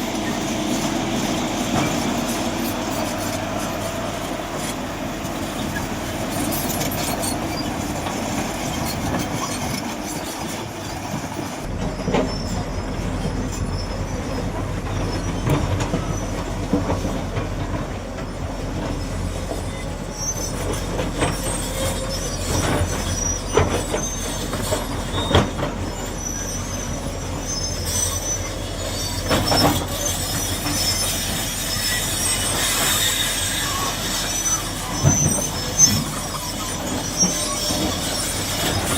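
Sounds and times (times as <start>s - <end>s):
excavator diesel engine running: 0.0s - 38.9s
metal clanks and squeals: 0.0s - 38.9s.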